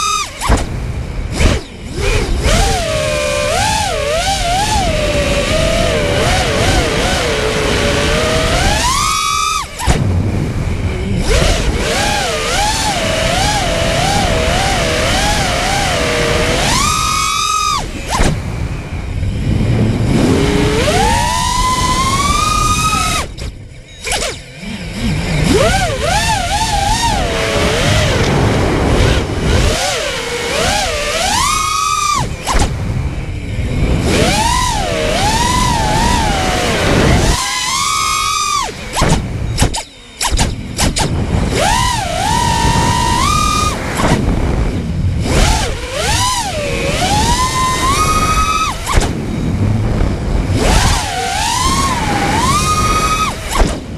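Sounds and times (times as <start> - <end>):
quadcopter crash: 0.0 - 53.9
quadcopter motors whining: 0.0 - 53.9.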